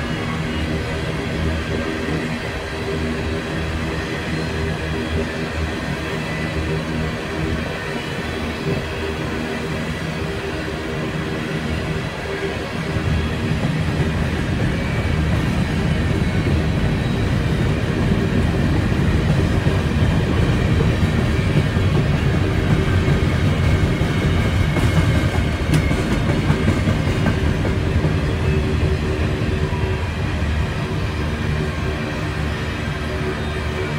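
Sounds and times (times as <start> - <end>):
clickety-clack of rails: 0.0 - 33.9
train wheels rumbling on rails: 0.0 - 33.9.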